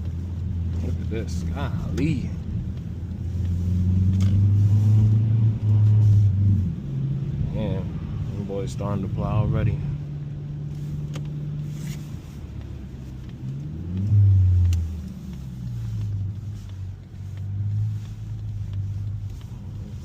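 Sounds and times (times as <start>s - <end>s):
car engine running while driving: 0.0s - 20.0s.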